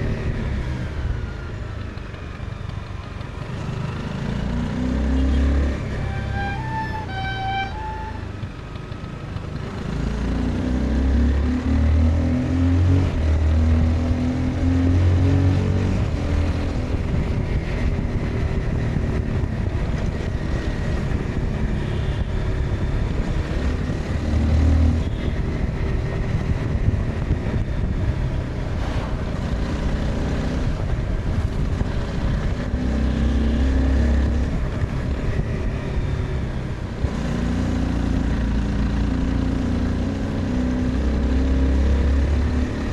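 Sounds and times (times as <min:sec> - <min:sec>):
motorcycle engine under way: 0:00.0 - 0:06.5, 0:08.2 - 0:42.9
wind and road noise: 0:00.0 - 0:42.9.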